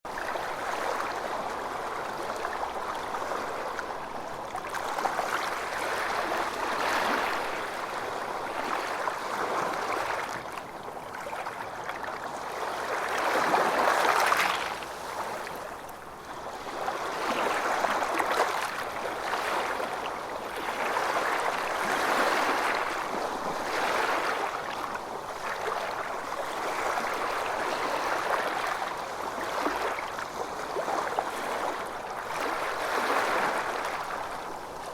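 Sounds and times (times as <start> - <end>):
ocean waves washing ashore: 0.1 - 34.9.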